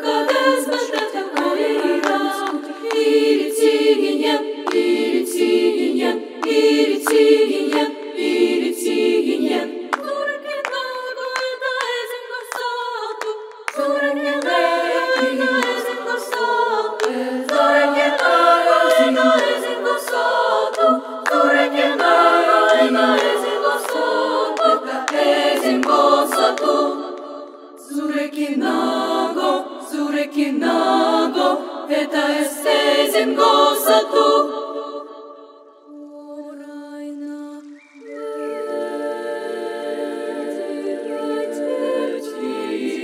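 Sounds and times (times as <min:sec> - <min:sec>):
girls' choir singing a cappella: 0:00.0 - 0:43.0.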